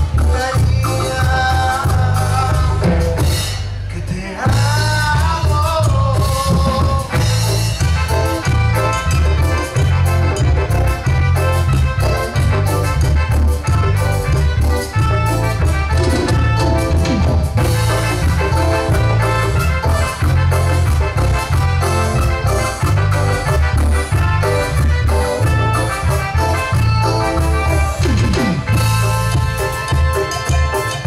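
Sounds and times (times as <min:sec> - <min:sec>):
congas: 0:00.0 - 0:03.7, 0:04.4 - 0:31.0
drum kit: 0:00.0 - 0:31.0
electric bass: 0:00.0 - 0:31.0
electric guitar: 0:00.0 - 0:31.0
keyboard: 0:00.0 - 0:31.0.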